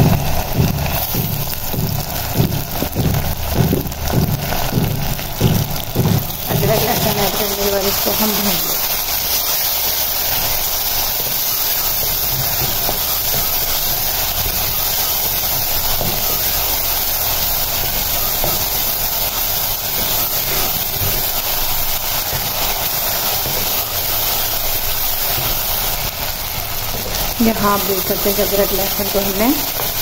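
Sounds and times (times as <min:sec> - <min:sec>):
onions sizzling in oil: 0:00.0 - 0:30.0
wooden spoon stirring pot: 0:00.0 - 0:30.0.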